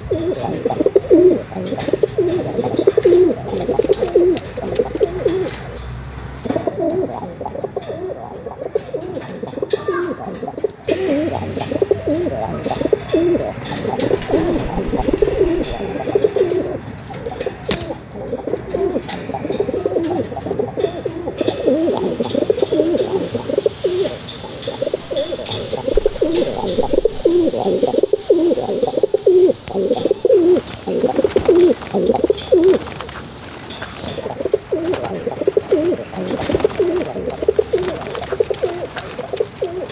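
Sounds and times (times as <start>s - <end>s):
pigeon cooing: 0.0s - 5.9s, 6.5s - 39.9s.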